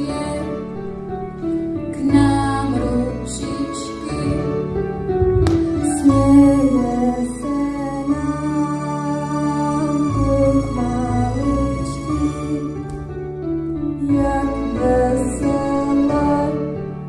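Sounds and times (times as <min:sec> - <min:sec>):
slow music with sustained chords: 0:00.0 - 0:17.0.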